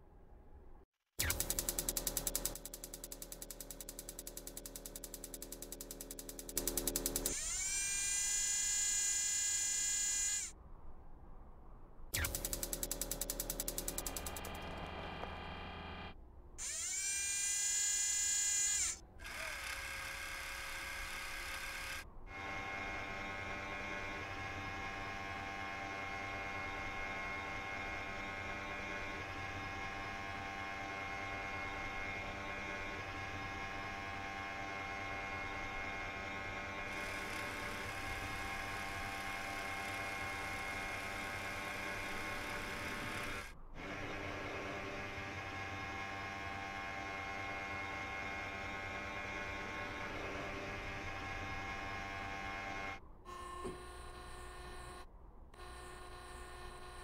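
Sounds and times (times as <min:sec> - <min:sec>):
small electric motors whirring: 0:01.2 - 0:10.5, 0:12.2 - 0:57.0.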